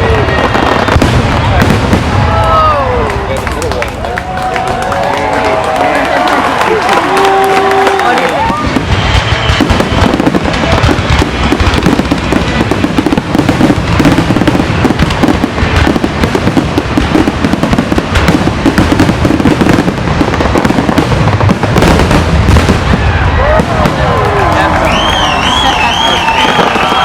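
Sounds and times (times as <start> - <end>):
fireworks banging and crackling: 0.0 - 27.0.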